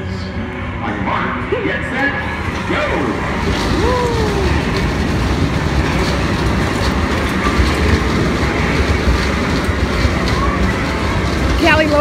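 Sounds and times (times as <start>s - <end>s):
carousel ride rumbling: 0.0s - 12.0s
platform clattering: 2.2s - 12.0s.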